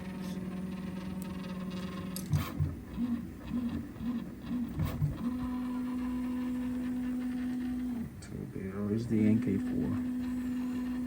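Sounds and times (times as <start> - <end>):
stepper motor tones and knocks: 0.0 - 8.4, 9.1 - 11.0
stepper motor hum: 0.0 - 11.0.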